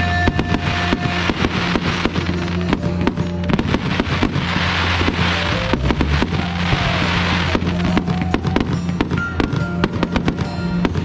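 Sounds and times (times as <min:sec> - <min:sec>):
fireworks bangs and crackles: 0:00.0 - 0:11.0
music with steady bass: 0:00.0 - 0:11.0.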